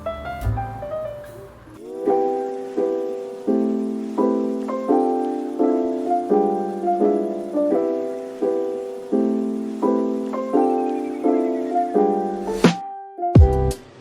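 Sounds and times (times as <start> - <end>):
soft piano chords: 0.0 - 13.9.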